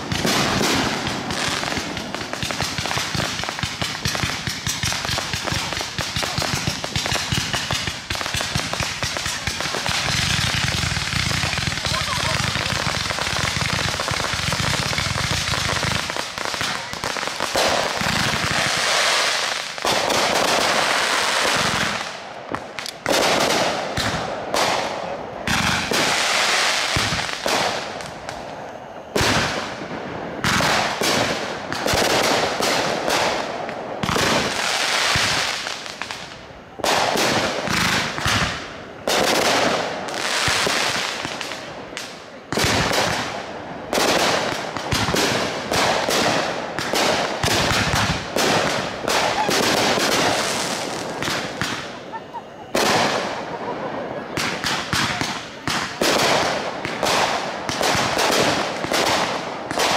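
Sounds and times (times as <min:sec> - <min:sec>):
fireworks bangs: 0:00.0 - 0:59.9
fireworks hissing and crackling: 0:00.0 - 0:59.9.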